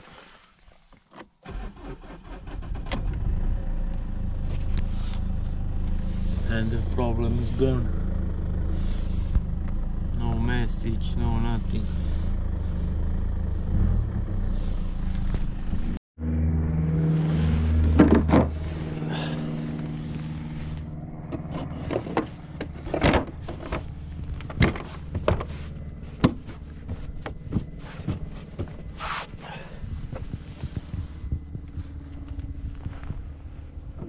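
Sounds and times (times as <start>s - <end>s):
diesel engine idling: 3.2s - 34.0s.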